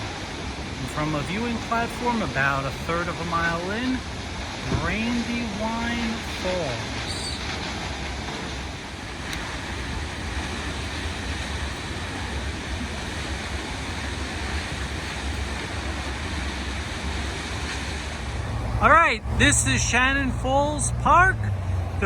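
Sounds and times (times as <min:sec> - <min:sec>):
waterfall roaring: 0:00.0 - 0:22.0
wind buffeting microphone: 0:00.0 - 0:22.0.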